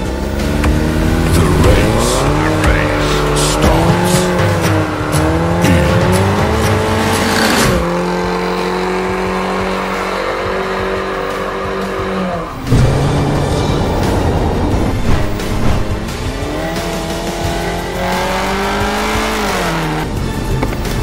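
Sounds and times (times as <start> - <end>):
car engine revving hard: 0.0 - 20.1.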